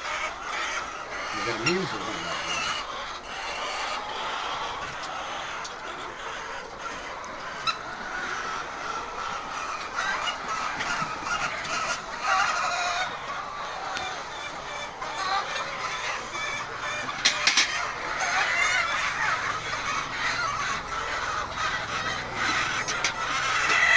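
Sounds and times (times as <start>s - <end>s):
hens clucking: 0.0s - 23.9s.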